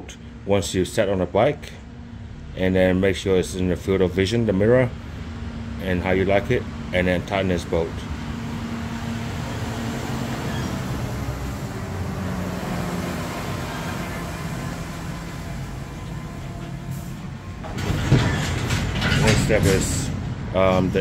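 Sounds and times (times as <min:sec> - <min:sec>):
large truck passing: 0:01.4 - 0:21.0.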